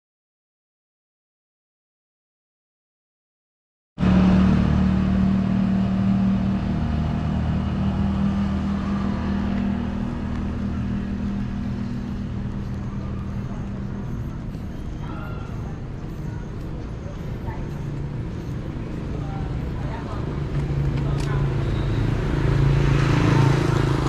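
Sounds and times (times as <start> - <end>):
engine running steadily: 4.0 - 24.0.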